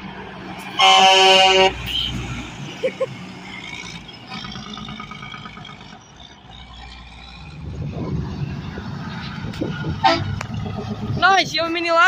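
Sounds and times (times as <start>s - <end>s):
road traffic passing: 0.0s - 12.0s
vehicle engine rumble: 0.0s - 12.0s.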